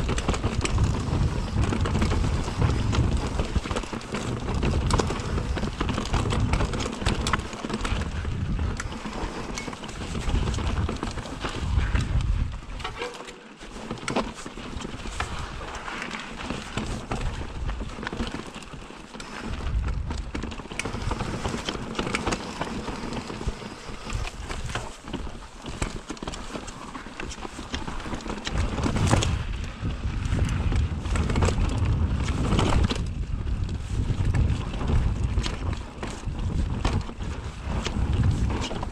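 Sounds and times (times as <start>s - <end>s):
wind rumble on microphone: 0.0s - 13.1s, 13.8s - 38.9s
bike rattling over stone paving: 0.0s - 38.9s.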